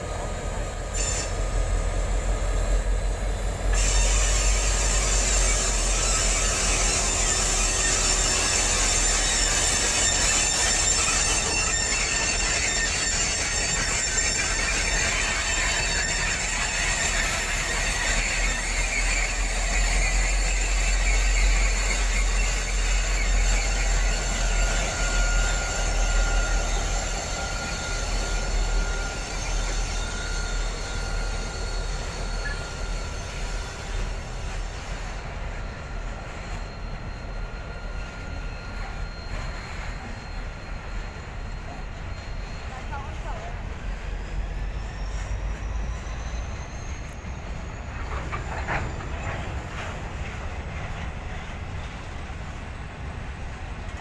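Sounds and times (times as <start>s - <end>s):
diesel locomotives passing: 0.0s - 54.0s
train wheels squealing: 0.0s - 54.0s.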